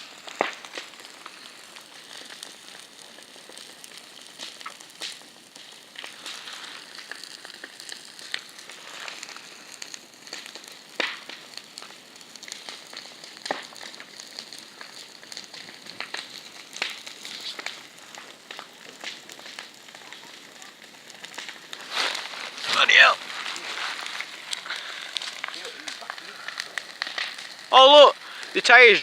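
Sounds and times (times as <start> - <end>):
bonfire crackling and hissing: 0.0 - 29.0
sharp fire pops: 0.0 - 29.0.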